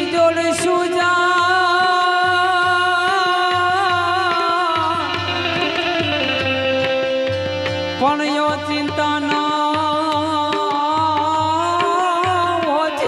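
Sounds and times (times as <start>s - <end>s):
harmonium: 0.0s - 13.0s
steady tabla beat: 0.0s - 13.0s.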